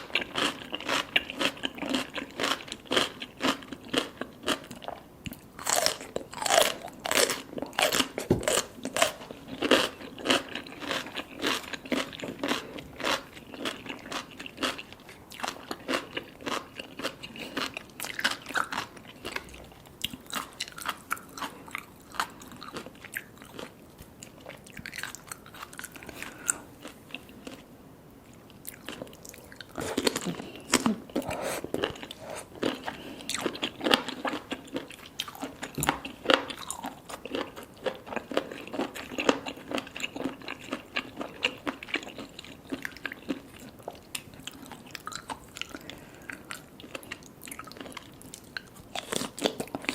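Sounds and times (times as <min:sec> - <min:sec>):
biting and chewing food: 0:00.0 - 0:27.7, 0:28.3 - 0:49.9.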